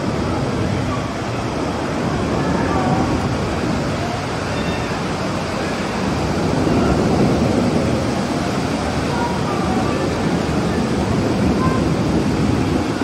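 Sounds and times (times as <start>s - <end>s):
faint voices: 0.0s - 13.0s
steady rushing noise: 0.0s - 13.0s.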